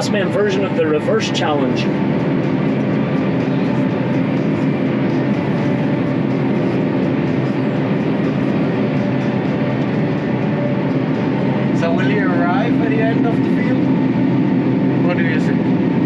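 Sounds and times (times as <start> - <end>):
harvester mechanical drone: 0.0 - 16.0
steady machine tones: 0.0 - 16.0.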